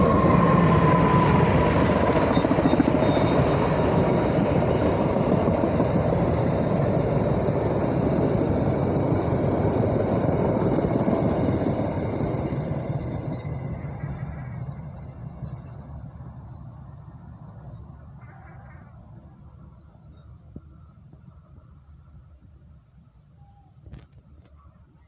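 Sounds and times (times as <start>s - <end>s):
train carriages rumbling past: 0.0s - 20.1s.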